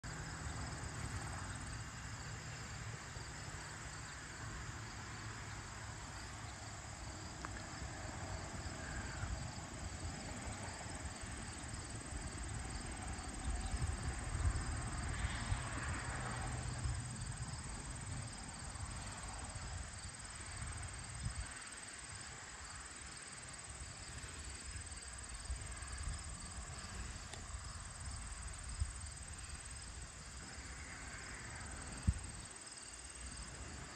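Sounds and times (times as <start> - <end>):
insects chirring: 6.1 - 33.9.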